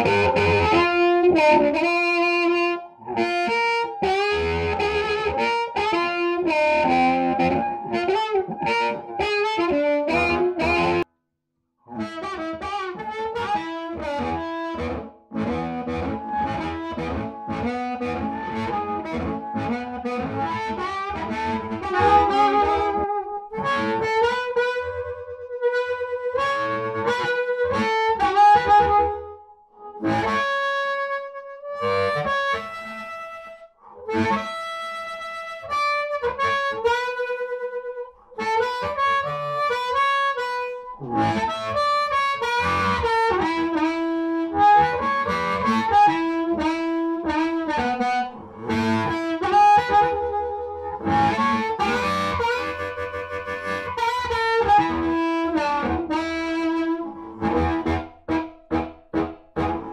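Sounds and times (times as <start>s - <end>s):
amplified harmonica playing: 0.0s - 11.0s, 11.9s - 59.9s.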